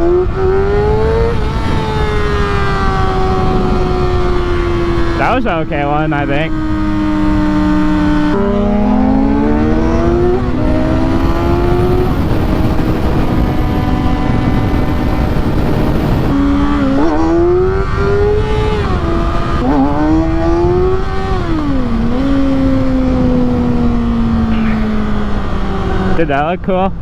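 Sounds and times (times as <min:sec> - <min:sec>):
motorcycle engine revving: 0:00.0 - 0:26.6
wind rushing on microphone: 0:00.0 - 0:27.0.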